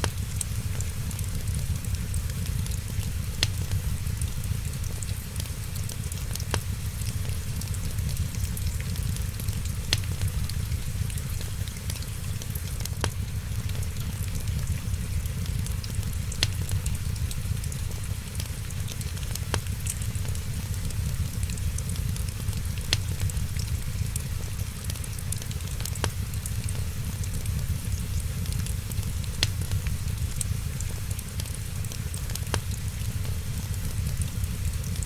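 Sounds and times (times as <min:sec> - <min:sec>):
fire crackling: 0:00.0 - 0:35.0
sharp pops of fire: 0:00.0 - 0:35.0.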